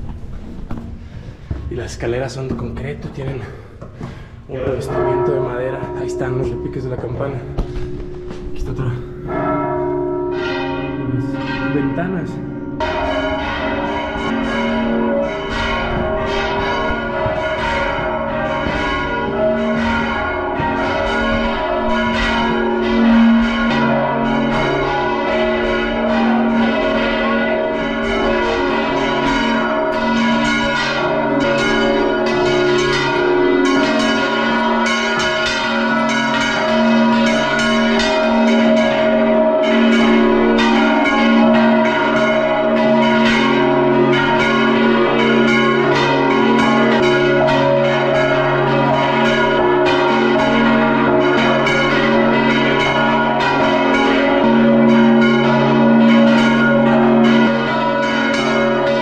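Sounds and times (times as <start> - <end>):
large church bells ringing: 0.0 - 59.0.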